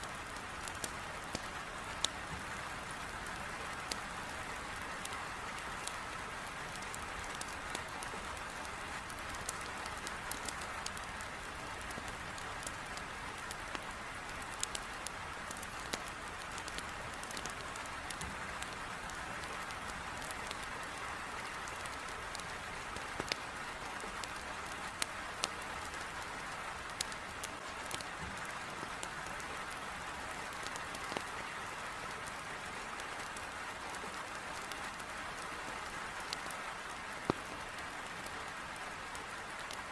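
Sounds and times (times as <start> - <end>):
heavy rain on a window: 0.0 - 39.9
wood fire crackling and popping: 0.0 - 39.9.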